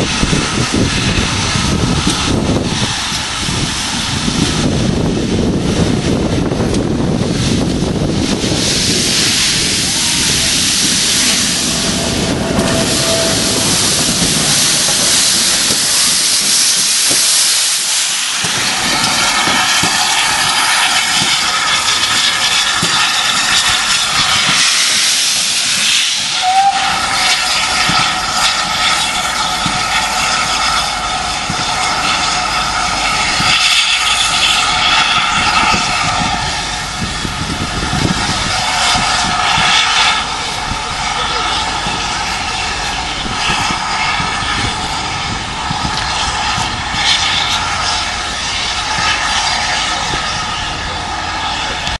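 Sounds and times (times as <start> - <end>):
steam locomotive hissing steam: 0.0 - 51.9
high-pitched ringing of escaping steam: 8.5 - 51.9.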